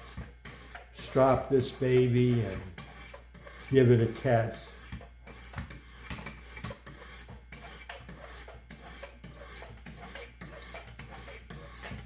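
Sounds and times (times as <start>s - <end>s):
sharpening stones stroking knife: 0.0s - 12.0s.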